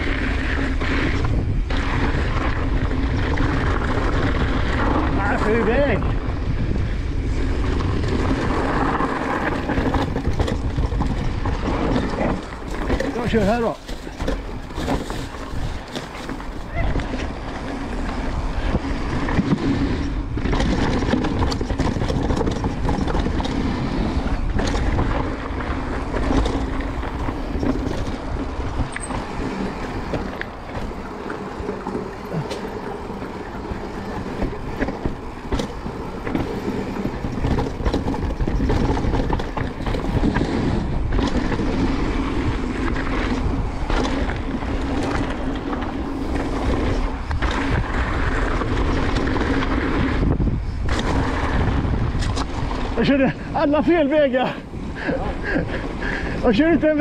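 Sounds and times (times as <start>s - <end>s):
bike clicks and rattles: 0.0s - 57.0s
tyres rolling over rough ground: 0.0s - 57.0s
wind rushing over microphone: 0.0s - 57.0s.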